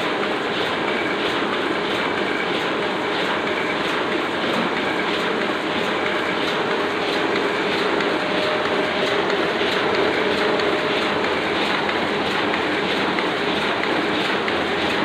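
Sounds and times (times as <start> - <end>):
printing press clattering: 0.0 - 15.0.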